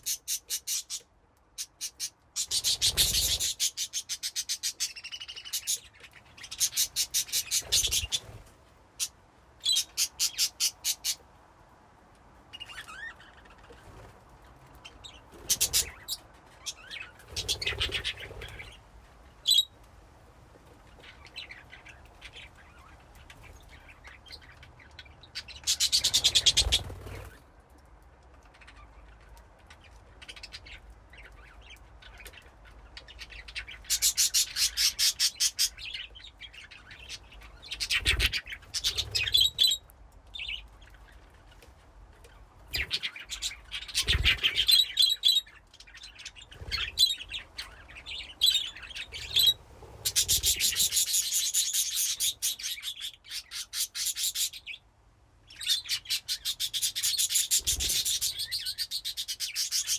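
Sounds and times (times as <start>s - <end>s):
budgies chirping and chattering: 0.0s - 11.2s, 12.6s - 18.8s, 19.4s - 19.7s, 20.9s - 27.4s, 28.6s - 39.8s, 40.4s - 54.8s, 55.5s - 59.9s.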